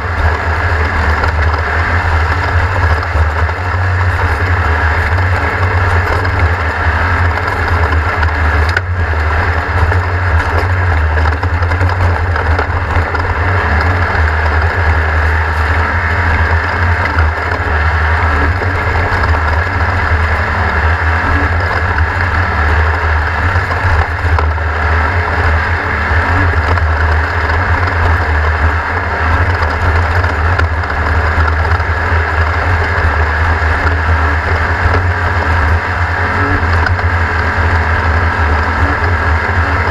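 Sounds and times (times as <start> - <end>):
race car engine running loudly: 0.0 - 39.9
road and wind noise: 0.0 - 39.9.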